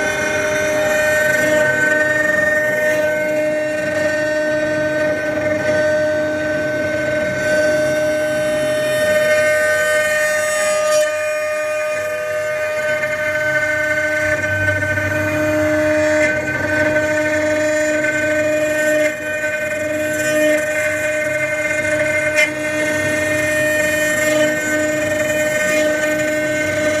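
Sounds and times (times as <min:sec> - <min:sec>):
engraving machine spindle whine: 0:00.0 - 0:27.0.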